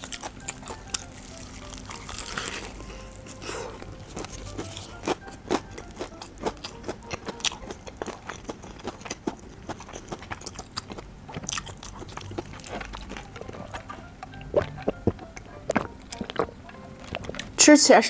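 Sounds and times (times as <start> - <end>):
crunchy chewing: 0.0 - 17.6
wet mouth sounds: 1.9 - 17.6.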